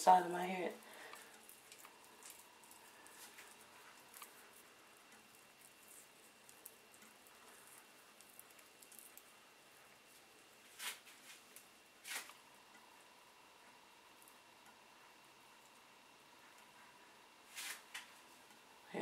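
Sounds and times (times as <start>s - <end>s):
hair crackling and rustling: 0.0s - 19.0s.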